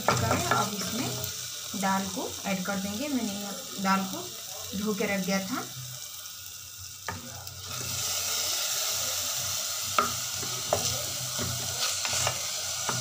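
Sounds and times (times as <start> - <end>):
lentils sizzling in hot pan: 0.0 - 13.0.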